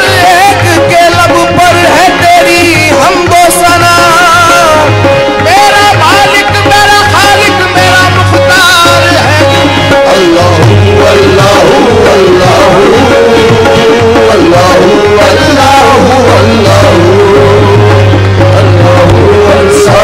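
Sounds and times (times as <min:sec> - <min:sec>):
harmonium melody: 0:00.0 - 0:20.0
tabla: 0:00.0 - 0:20.0.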